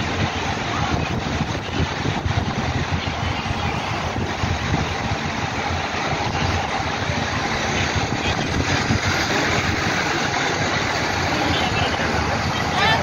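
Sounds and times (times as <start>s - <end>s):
road traffic passing: 0.0s - 13.0s
wind rumbling on microphone: 0.0s - 13.0s.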